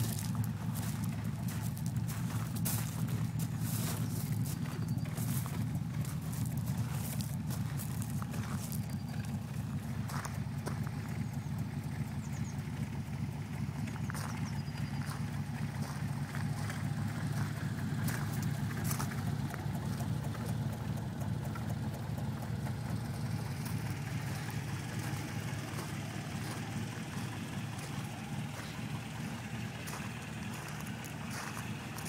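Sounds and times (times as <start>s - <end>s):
footsteps on gravel: 0.0s - 20.1s, 23.0s - 32.0s
car engine idling: 0.0s - 32.0s.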